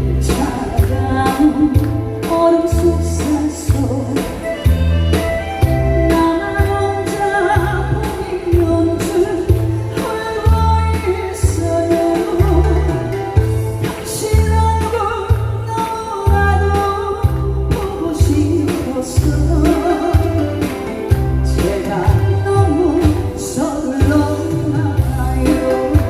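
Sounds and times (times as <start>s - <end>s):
band backing with bass pulse: 0.0s - 26.0s
woman singing pop ballad: 0.0s - 26.0s.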